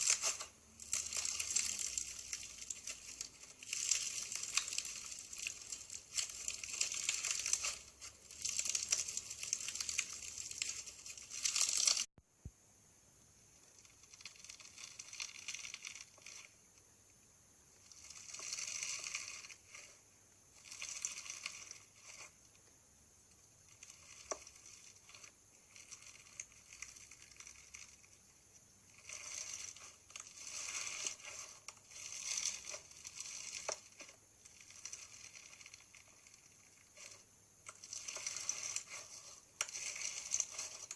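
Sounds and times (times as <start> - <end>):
crunchy slime crackling: 0.0 - 12.1, 13.7 - 16.6, 17.7 - 22.6, 23.3 - 40.9
faint steady hiss: 0.0 - 40.9.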